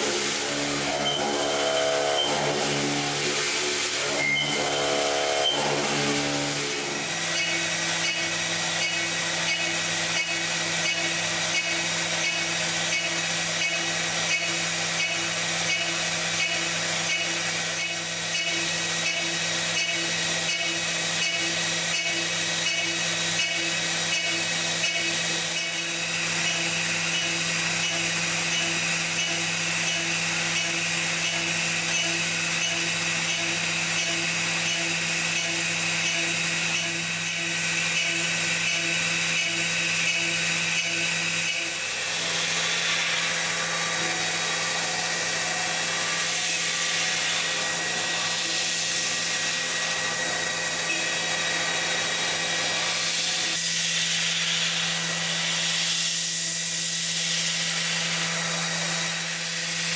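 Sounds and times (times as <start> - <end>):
lathe machine hum and whine: 0.0 - 59.9
cutting hiss: 6.9 - 59.9.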